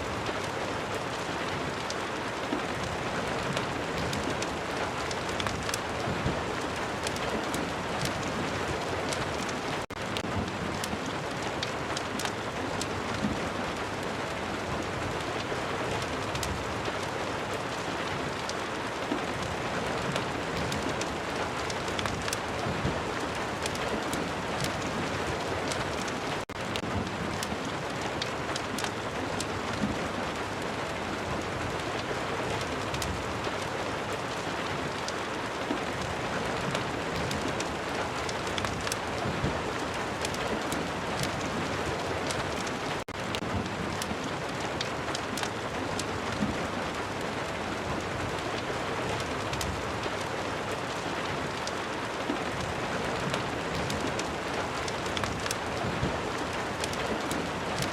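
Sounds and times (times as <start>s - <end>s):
fireplace crackling: 0.1s - 14.3s, 16.0s - 32.0s, 32.6s - 47.4s, 48.0s - 57.9s.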